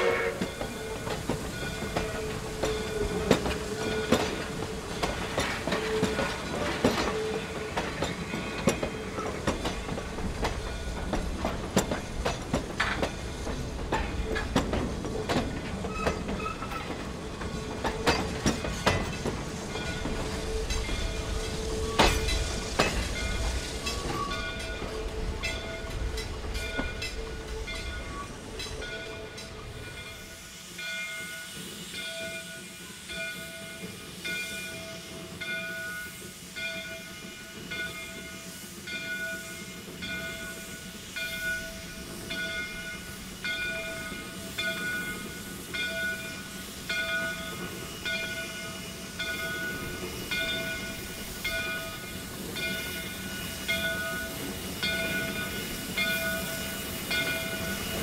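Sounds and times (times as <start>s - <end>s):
locomotive bell ringing: 0.0s - 11.4s, 15.8s - 58.0s
rail clicks: 0.0s - 58.0s
steam hissing from cylinder cocks: 0.0s - 58.0s.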